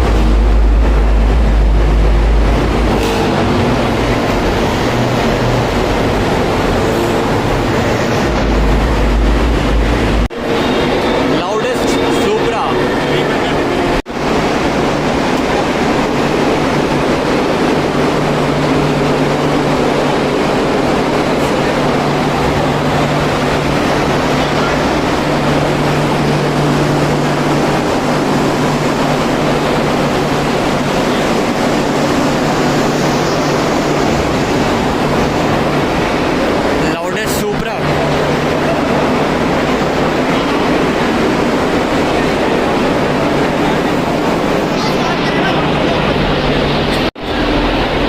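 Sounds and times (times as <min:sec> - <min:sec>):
vehicle drone: 0:00.0 - 0:48.0.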